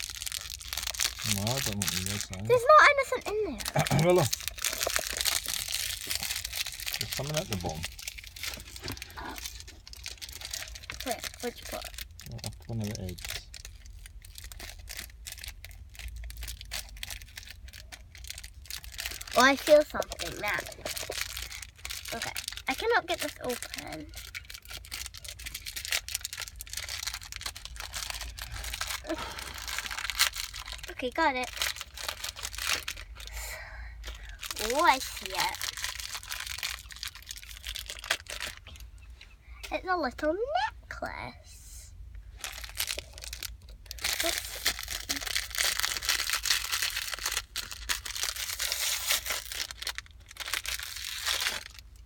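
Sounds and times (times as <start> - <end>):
plastic packaging crinkling: 0.0 - 38.8, 42.3 - 52.0.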